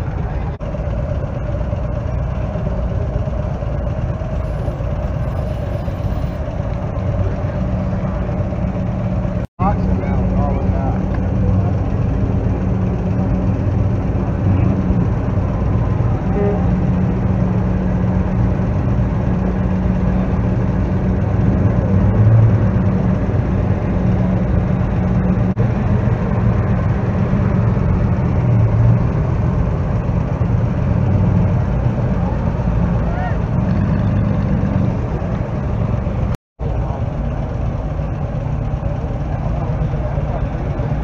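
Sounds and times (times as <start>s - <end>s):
cars driving slowly past: 0.0s - 41.0s.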